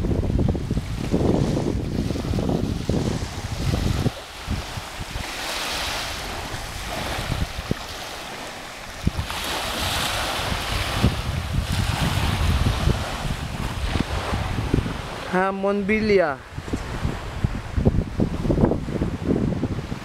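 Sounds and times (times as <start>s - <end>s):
small waves washing on sand: 0.0s - 20.0s
wind buffeting microphone: 0.0s - 20.0s.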